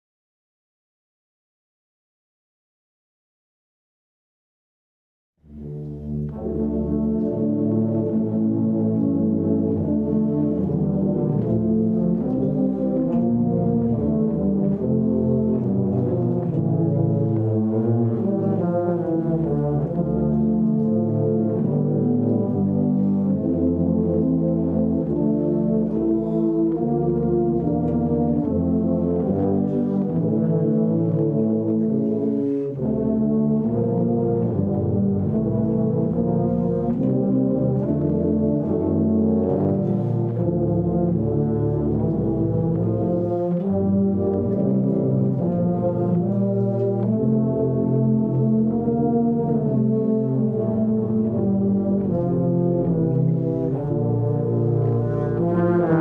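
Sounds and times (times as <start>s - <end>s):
brass ensemble playing chords: 5.4s - 56.0s.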